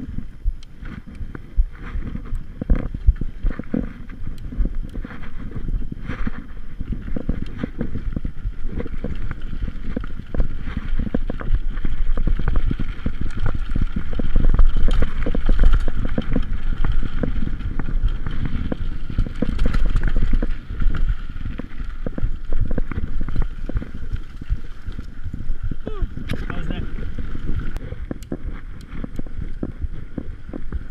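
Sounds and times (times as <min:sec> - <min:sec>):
low rumble: 0:00.0 - 0:30.9
bike knocks and rattles: 0:00.8 - 0:30.9.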